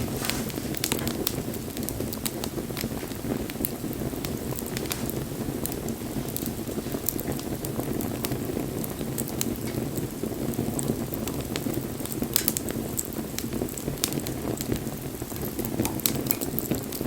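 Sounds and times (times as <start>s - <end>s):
bonfire flames rushing: 0.0s - 17.0s
fire crackling and popping: 0.0s - 17.0s.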